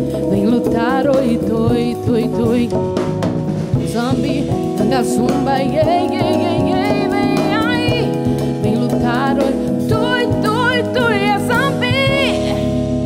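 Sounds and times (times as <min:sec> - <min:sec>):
low bass line: 0:00.0 - 0:13.0
vibrato melody: 0:00.0 - 0:13.0.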